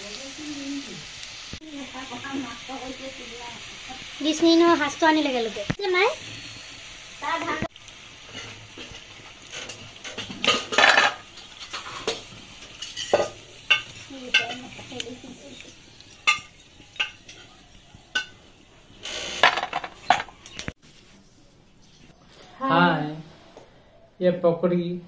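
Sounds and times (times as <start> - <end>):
oil sizzling: 0.0 - 24.0.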